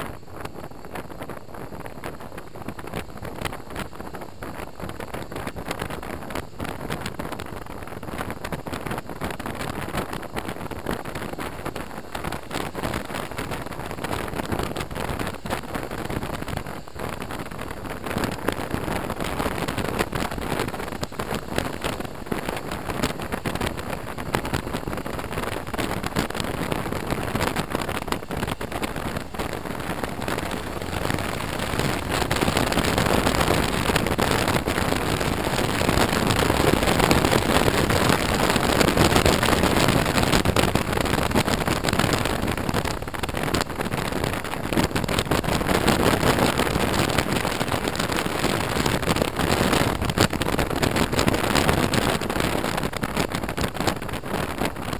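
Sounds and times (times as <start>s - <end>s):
motorcycle road noise: 0.0s - 54.9s
wind rush: 0.0s - 54.9s.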